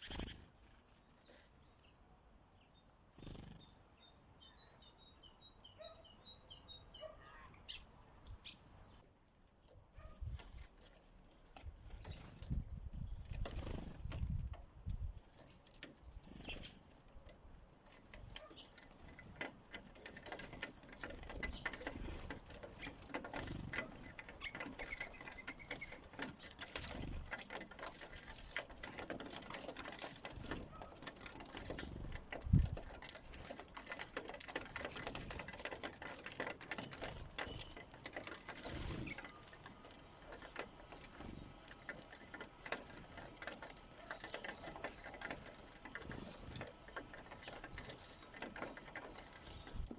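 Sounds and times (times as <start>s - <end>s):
birds pecking seed: 0.0s - 49.9s.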